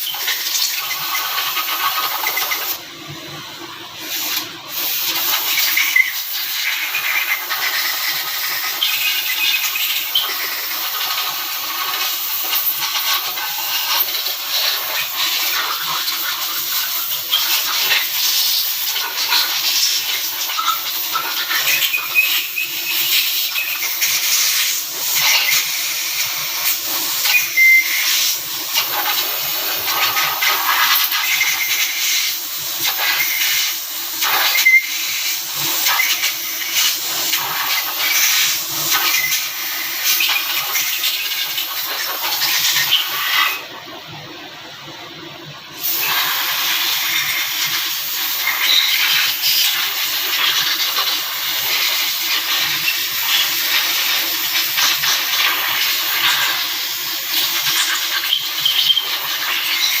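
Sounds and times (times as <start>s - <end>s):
loud steady hiss: 0.0s - 43.7s, 45.4s - 60.0s.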